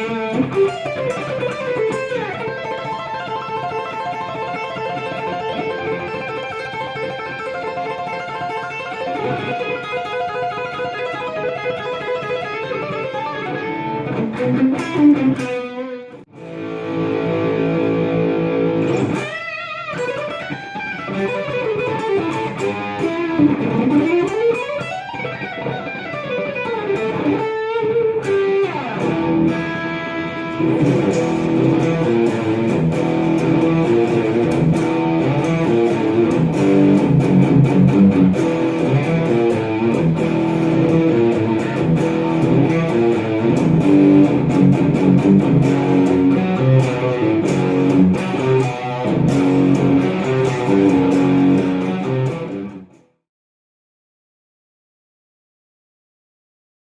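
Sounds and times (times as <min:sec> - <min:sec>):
electric guitar through amp: 0:00.0 - 0:53.2.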